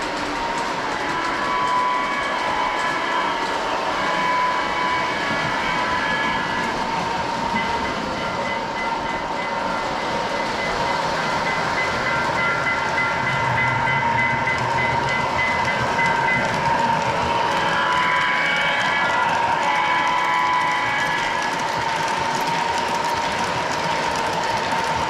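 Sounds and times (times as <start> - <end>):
model train rumble and clickety-clack: 0.0 - 25.0.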